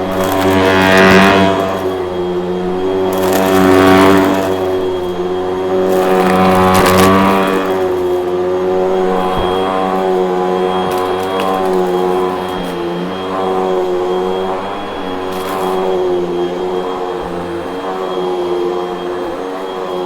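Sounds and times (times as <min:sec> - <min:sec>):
vacuum cleaner motor whining: 0:00.0 - 0:20.0.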